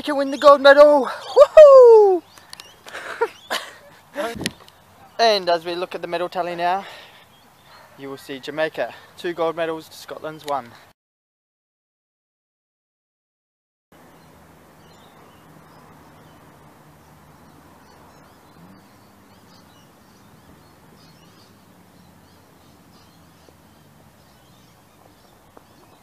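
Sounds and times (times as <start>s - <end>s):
birds chirping: 0.0s - 11.0s, 14.0s - 26.0s.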